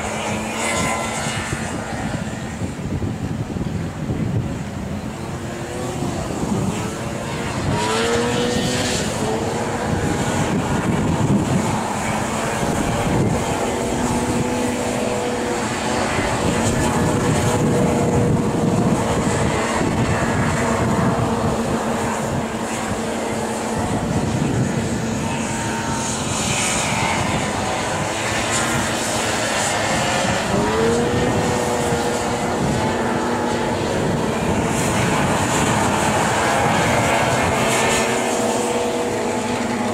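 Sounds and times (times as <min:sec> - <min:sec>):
snowmobile engines racing: 0:00.0 - 0:39.9
wind buffeting microphone: 0:00.0 - 0:39.9.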